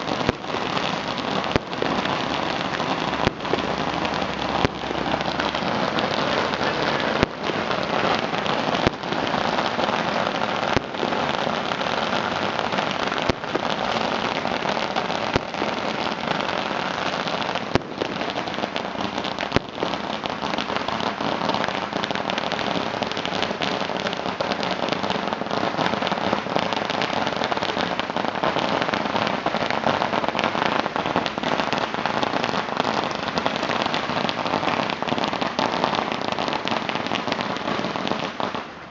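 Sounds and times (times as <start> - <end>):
firecracker bangs: 0.0 - 38.9
firecrackers crackling: 0.0 - 38.9.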